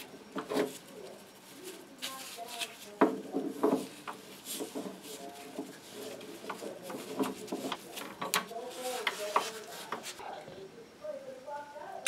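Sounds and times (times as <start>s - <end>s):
metal rubbing: 0.0s - 10.3s.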